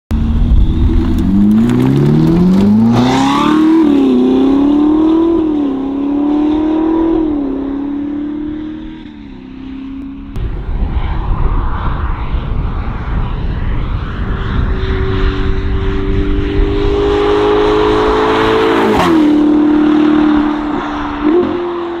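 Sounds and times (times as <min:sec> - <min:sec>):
sports car accelerating with upshifts: 0:00.2 - 0:10.4, 0:13.9 - 0:22.0.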